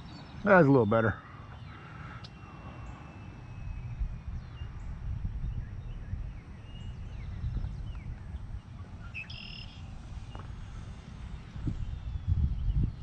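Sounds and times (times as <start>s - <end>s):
faint bird chirps: 0.0s - 13.0s
wind buffeting microphone: 0.0s - 13.0s.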